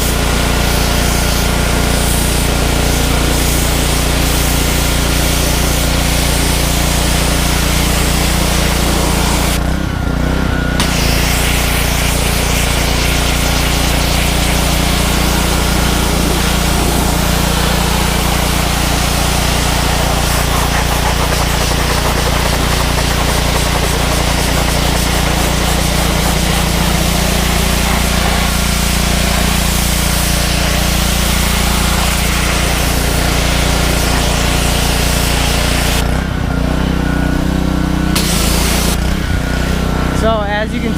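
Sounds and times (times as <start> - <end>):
water jet hissing: 0.0 - 9.6, 10.8 - 36.1, 38.1 - 39.8
pressure washer motor droning: 0.0 - 40.9.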